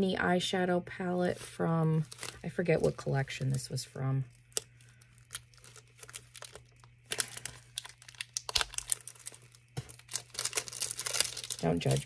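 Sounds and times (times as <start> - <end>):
plastic wrap crinkling and tearing: 1.4 - 12.0.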